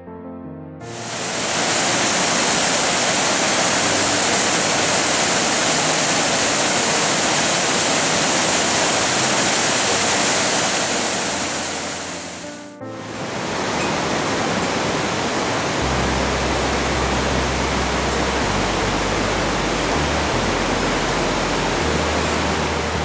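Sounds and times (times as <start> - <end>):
waterfall pouring over rocks: 0.9 - 12.4, 13.1 - 23.0.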